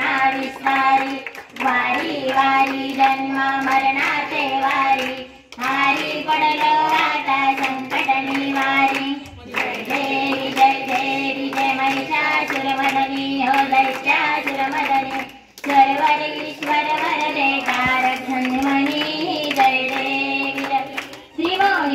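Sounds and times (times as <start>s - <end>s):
group singing: 0.0s - 21.9s
hands clapping in time: 0.0s - 21.9s.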